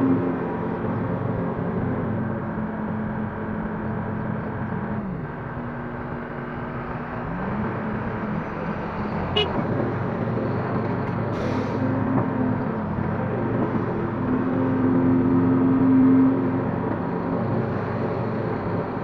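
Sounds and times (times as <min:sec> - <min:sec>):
excavator diesel engine under load: 0:00.0 - 0:19.0.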